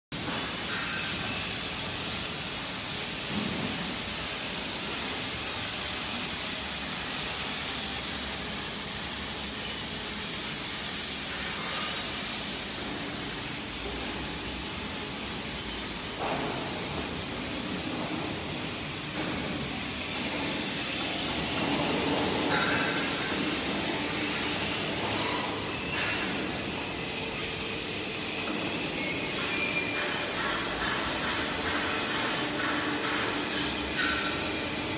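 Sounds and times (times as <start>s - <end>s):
factory background hiss: 0.1s - 34.9s.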